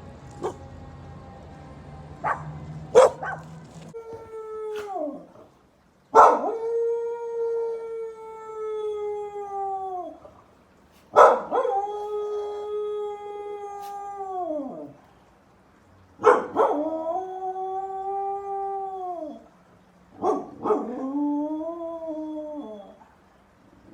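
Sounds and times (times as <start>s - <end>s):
dog howling: 0.2s - 5.5s, 6.2s - 10.4s, 11.2s - 15.0s, 16.3s - 19.6s, 20.2s - 23.2s.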